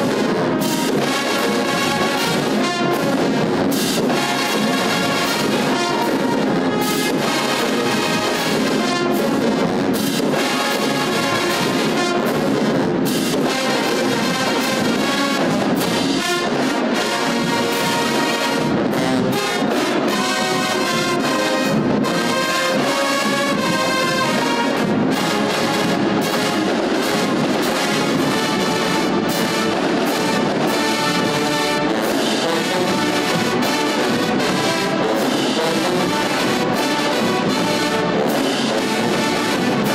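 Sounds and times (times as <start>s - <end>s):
marching band playing: 0.0s - 39.9s.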